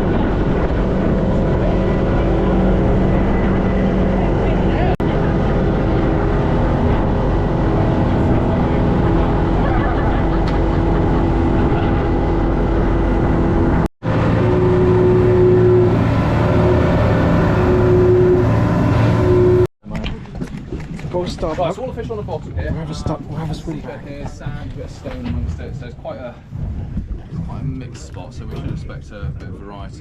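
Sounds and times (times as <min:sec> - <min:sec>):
wind noise on microphone: 0:00.0 - 0:13.9, 0:19.8 - 0:30.0
boat engine running: 0:00.0 - 0:30.0.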